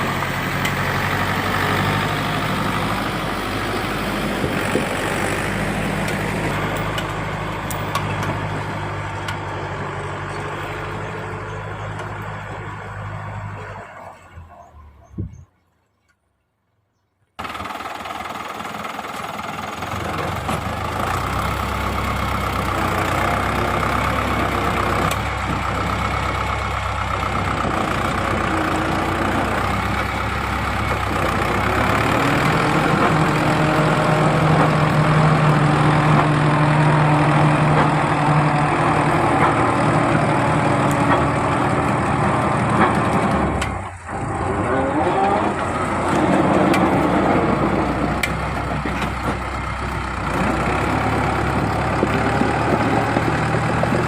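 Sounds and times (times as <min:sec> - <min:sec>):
tractor engine running: 0:00.0 - 0:15.4, 0:17.4 - 0:54.0.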